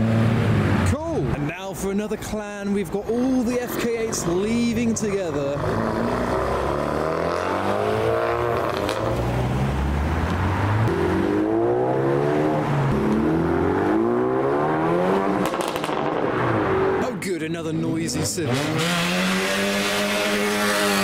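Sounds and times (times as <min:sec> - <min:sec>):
car engines accelerating: 0:00.0 - 0:01.4, 0:03.4 - 0:17.1, 0:17.8 - 0:21.0.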